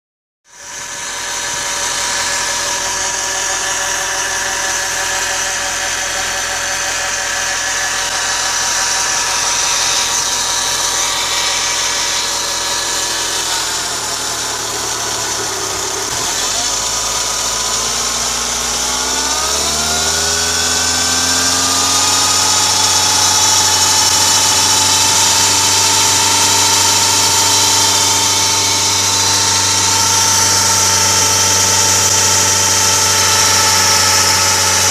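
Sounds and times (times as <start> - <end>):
diesel engine running: 0.5 - 34.9
steady high pulley tone: 0.5 - 34.9.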